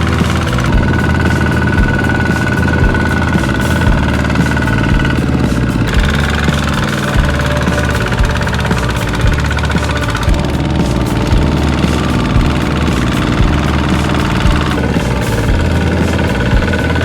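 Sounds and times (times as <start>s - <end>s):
tractor engine running under load: 0.0s - 17.0s.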